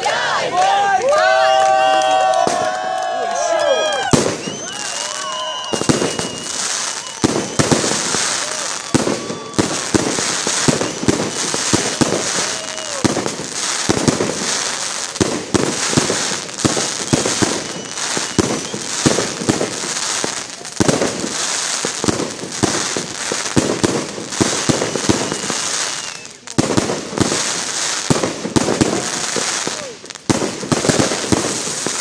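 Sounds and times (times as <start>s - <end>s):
hiss and crackle of fireworks: 1.9s - 32.0s
firework shells bursting: 4.0s - 32.0s.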